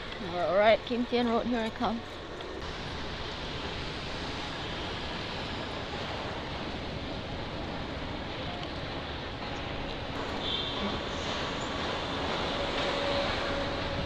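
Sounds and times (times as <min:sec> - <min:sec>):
road and traffic noise: 0:00.0 - 0:14.0.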